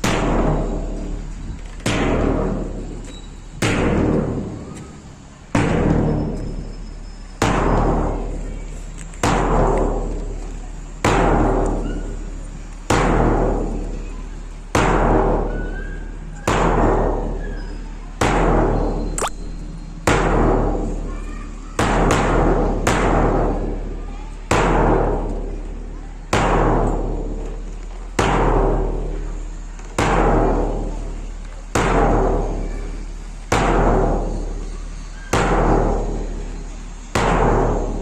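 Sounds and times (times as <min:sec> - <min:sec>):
deep drum beat: 0:00.0 - 0:17.5, 0:18.1 - 0:21.1, 0:21.8 - 0:34.7, 0:35.3 - 0:38.0.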